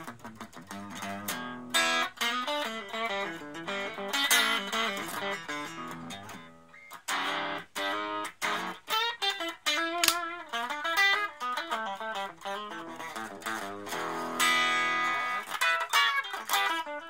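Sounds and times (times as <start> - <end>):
electric guitar notes: 0.0 - 17.0.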